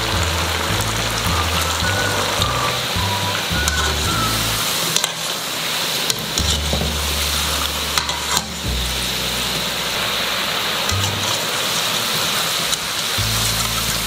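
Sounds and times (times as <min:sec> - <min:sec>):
food deep-frying in hot oil: 0:00.0 - 0:14.0.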